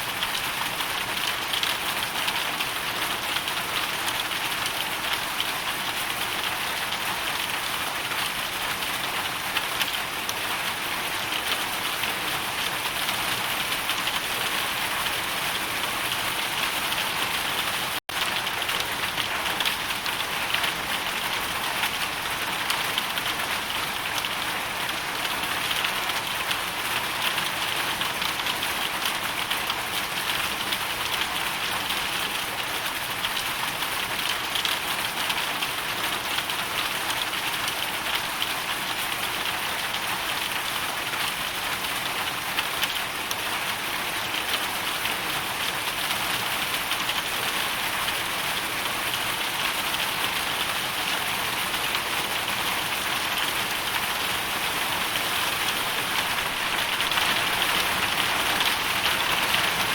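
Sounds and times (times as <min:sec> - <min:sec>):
hail and rain on hard surface: 0:00.0 - 0:59.9.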